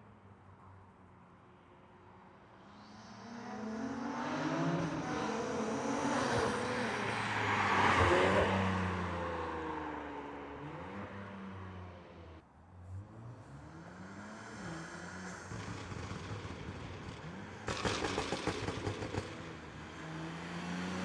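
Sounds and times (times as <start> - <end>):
car engine accelerating past: 2.6 - 21.0.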